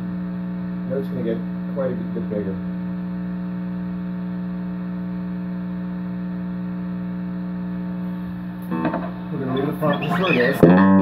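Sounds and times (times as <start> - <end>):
amplifier electrical hum with hiss: 0.0 - 11.0.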